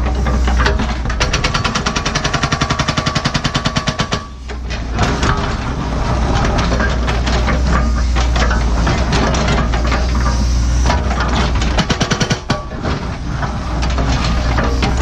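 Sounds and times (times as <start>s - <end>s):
excavator diesel engine running: 0.0s - 15.0s
hydraulic hammer pounding rock: 0.0s - 15.0s.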